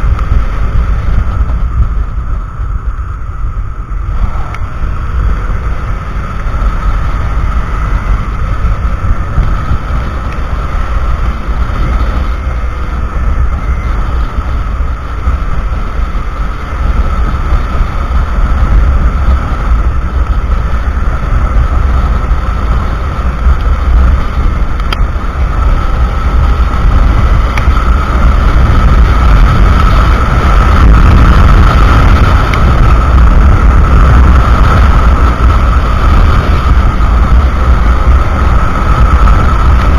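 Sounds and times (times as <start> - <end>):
steady high hum: 0.0 - 39.9
wind buffeting microphone: 0.0 - 39.9.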